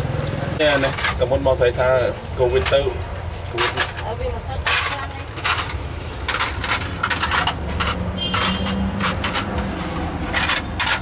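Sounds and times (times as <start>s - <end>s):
traffic rumble: 0.0s - 11.0s
kitchenware clacking: 0.6s - 11.0s.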